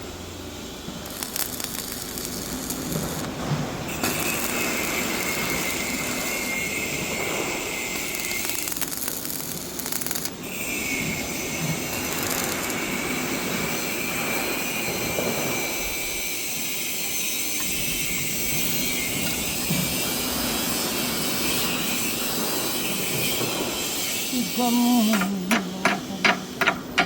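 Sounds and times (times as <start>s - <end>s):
arc welding sizzling hiss: 0.0s - 27.0s.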